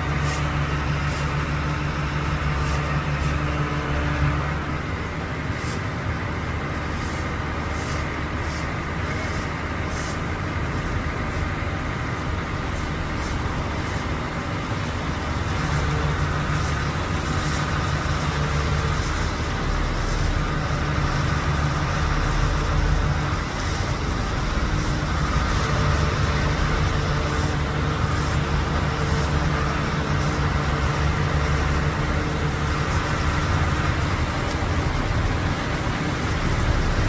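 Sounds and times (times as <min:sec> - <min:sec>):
large engine running: 0:00.0 - 0:37.0.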